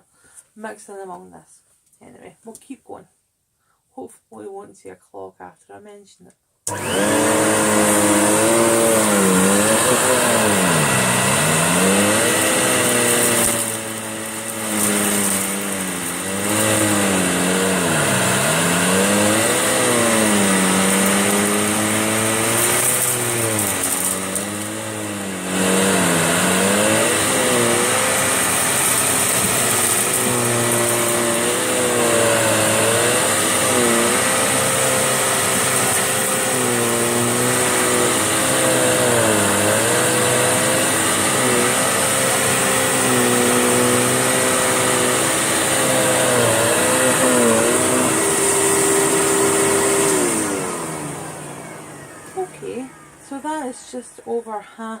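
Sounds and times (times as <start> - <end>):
vacuum cleaner running: 6.7 - 53.5.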